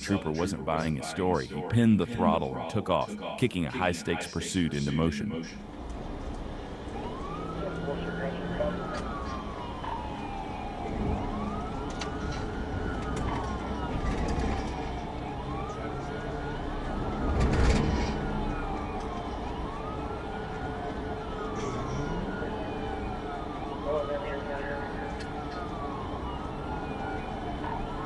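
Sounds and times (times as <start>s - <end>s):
police siren wailing: 0.0s - 28.0s
vehicle road and engine noise: 4.6s - 28.0s.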